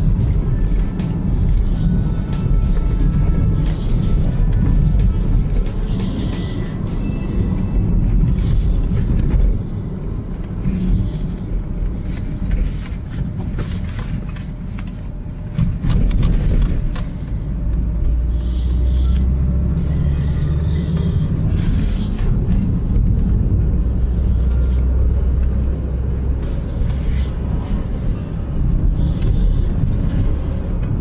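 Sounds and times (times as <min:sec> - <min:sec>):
car tyres and engine rumble: 0:00.0 - 0:31.0.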